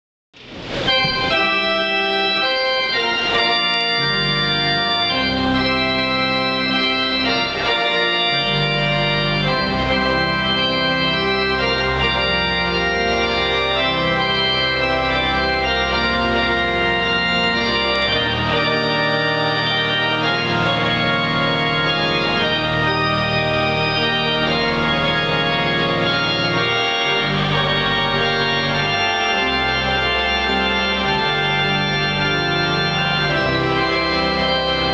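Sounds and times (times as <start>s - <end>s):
pipe organ chords: 0.6s - 34.9s.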